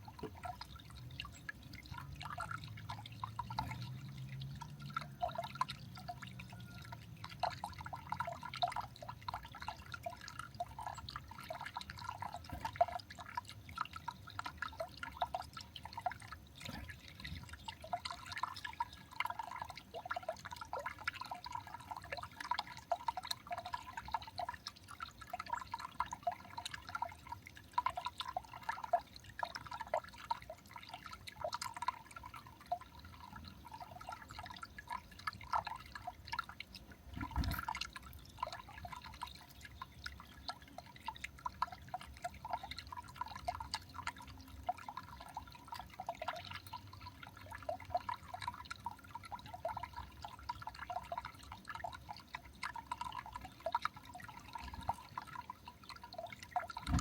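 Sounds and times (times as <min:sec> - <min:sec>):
water dripping and trickling: 0:00.0 - 0:57.0.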